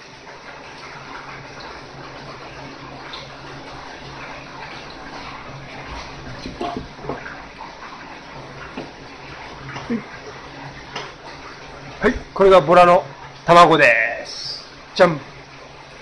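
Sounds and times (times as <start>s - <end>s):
water running from tap: 0.0s - 16.0s.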